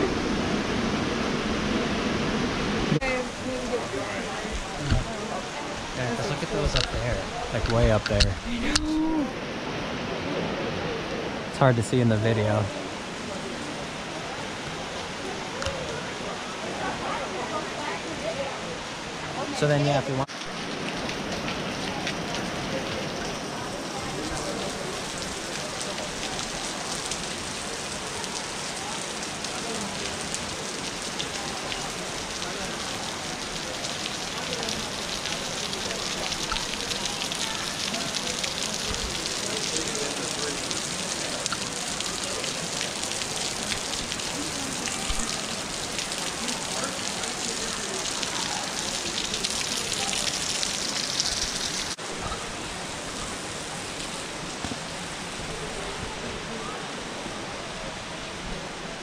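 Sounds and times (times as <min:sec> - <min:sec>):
falling splashing water: 0:00.0 - 0:59.0.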